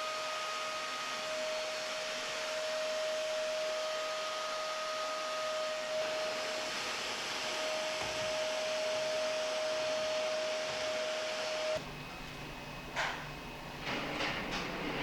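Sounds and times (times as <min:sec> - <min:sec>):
blower machine rushing and whining: 0:00.0 - 0:12.6.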